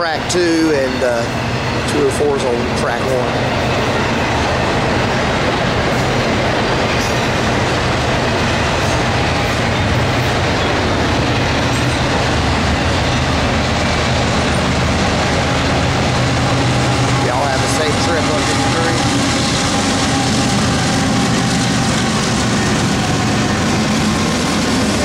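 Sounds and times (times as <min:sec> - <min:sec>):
diesel locomotive drone: 0:00.0 - 0:25.0
train wheels clattering on rail: 0:00.0 - 0:25.0.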